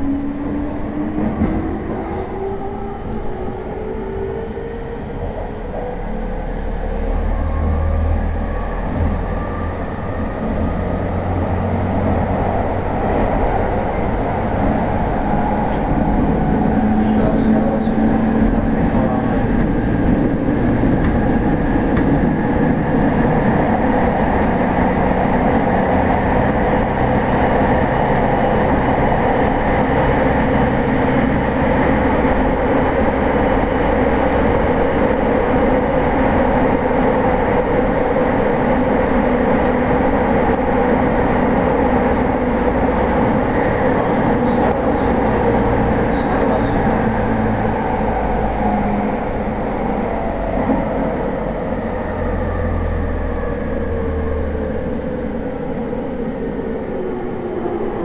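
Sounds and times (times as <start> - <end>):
electric train hums: 0.0 - 58.0
train rolling noise: 0.0 - 58.0.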